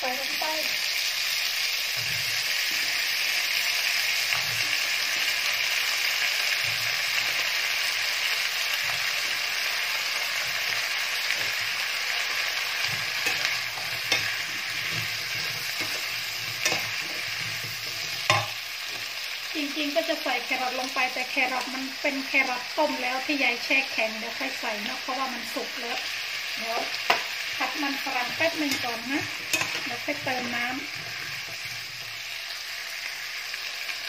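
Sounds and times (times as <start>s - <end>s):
potatoes sizzling in a frying pan: 0.0s - 34.0s.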